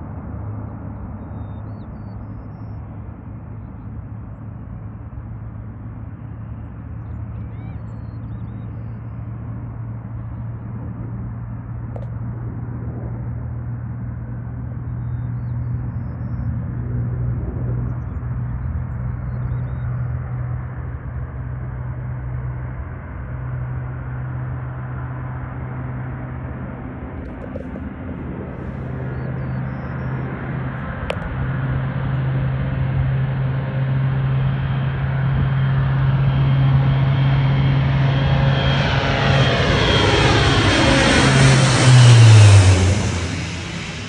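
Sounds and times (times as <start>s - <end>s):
low propeller drone: 0.0s - 44.0s.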